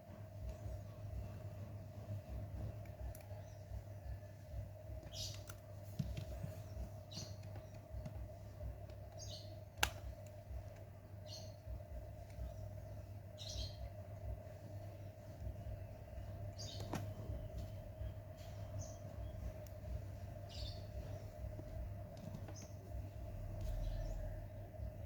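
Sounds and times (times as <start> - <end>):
steady hum: 0.0 - 25.0
bird chirping: 0.4 - 10.1, 11.0 - 25.0.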